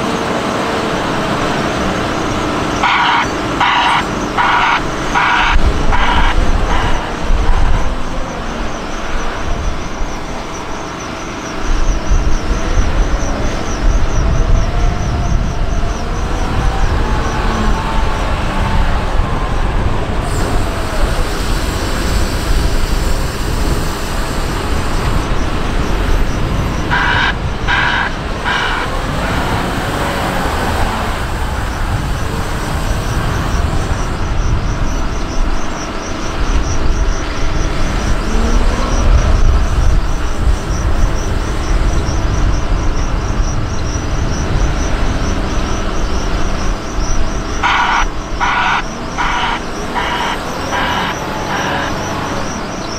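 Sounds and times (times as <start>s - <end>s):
diesel engine revving: 0.0s - 52.9s.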